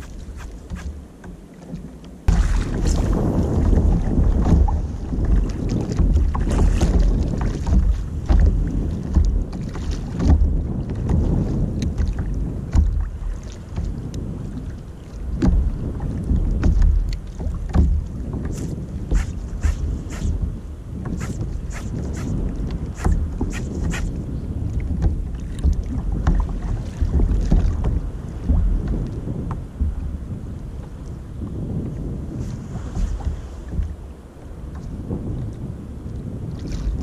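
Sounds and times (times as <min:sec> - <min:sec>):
water slapping against hull: 0:00.0 - 0:37.0
wind buffeting microphone: 0:00.0 - 0:37.0.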